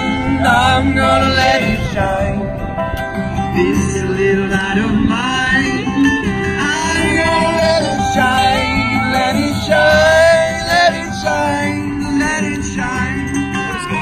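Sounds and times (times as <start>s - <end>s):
man singing: 0.0s - 2.6s, 3.4s - 14.0s
electric and acoustic guitars: 0.0s - 14.0s.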